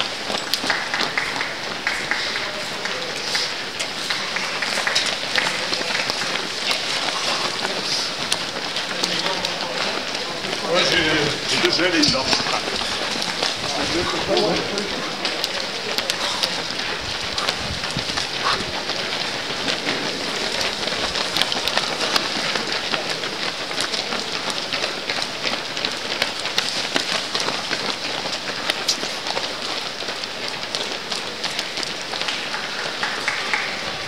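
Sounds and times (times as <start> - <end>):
runners' footsteps on stone: 0.0 - 34.0.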